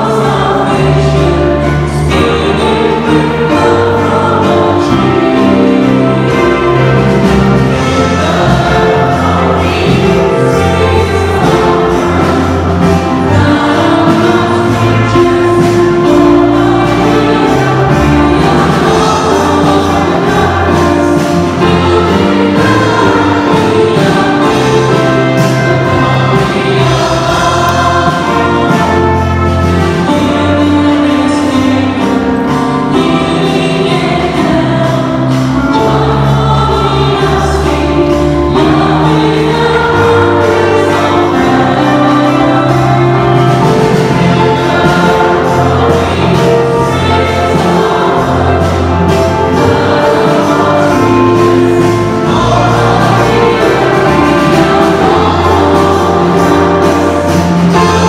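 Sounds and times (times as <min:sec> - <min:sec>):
choir singing a hymn: 0:00.0 - 0:58.0
sustained bass notes: 0:00.0 - 0:58.0.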